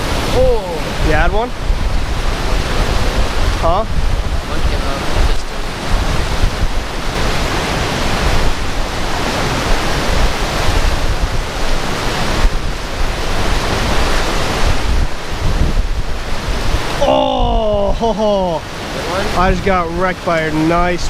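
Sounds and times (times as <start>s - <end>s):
water rushing over spillway: 0.0s - 21.0s
wind gusting on microphone: 0.0s - 21.0s.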